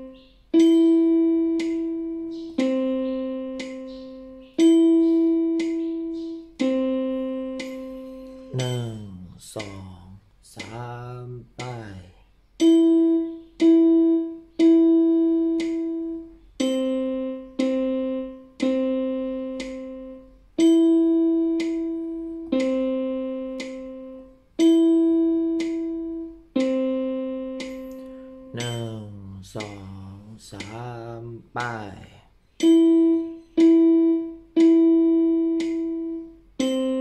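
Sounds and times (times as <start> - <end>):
electronic keyboard melody: 0.0 - 9.2, 12.6 - 29.9, 32.5 - 37.0
faint metronome clicks: 0.0 - 37.0.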